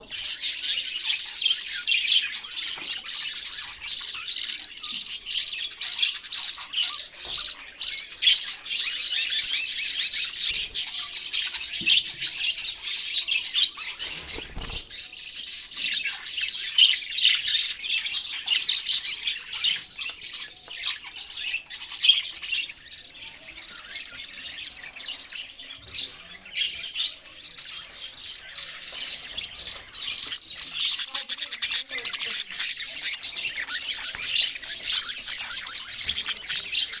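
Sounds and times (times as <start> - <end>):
parakeets chattering: 0.0 - 37.0.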